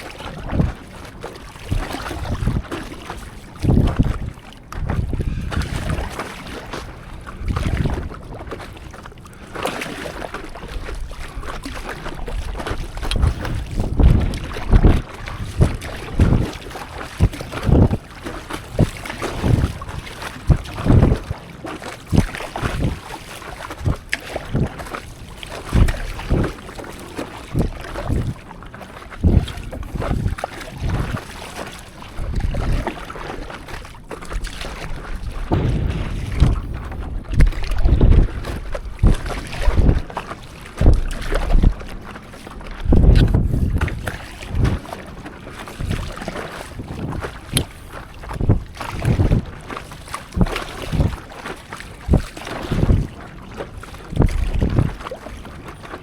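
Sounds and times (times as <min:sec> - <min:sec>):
water splashing against paddleboard: 0:00.0 - 0:56.0
wind buffeting microphone: 0:01.7 - 0:08.7, 0:10.5 - 0:28.5, 0:29.1 - 0:56.0.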